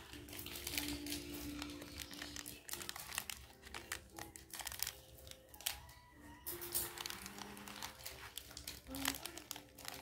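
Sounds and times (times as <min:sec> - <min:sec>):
foam beads rustling: 0:00.0 - 0:10.0
plastic wrapper crinkling: 0:00.0 - 0:10.0.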